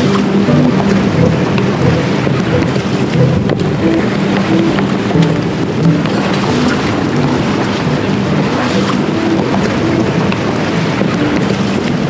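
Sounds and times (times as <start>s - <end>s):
short low tones: 0.0s - 11.6s
choppy water: 0.0s - 12.0s
strong wind buffeting microphone: 0.0s - 12.0s.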